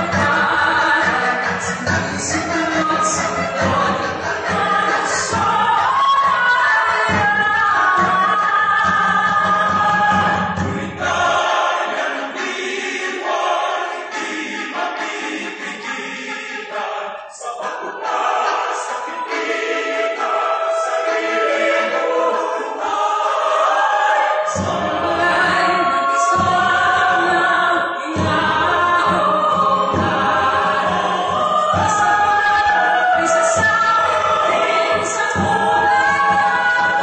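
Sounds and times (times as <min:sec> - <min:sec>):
choir singing in harmony: 0:00.0 - 0:37.0.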